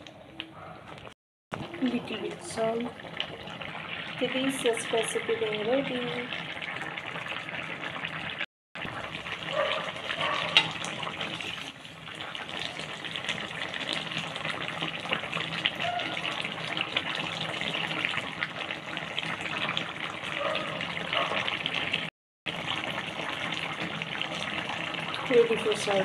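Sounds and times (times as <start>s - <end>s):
curry bubbling and popping: 0.0s - 26.0s.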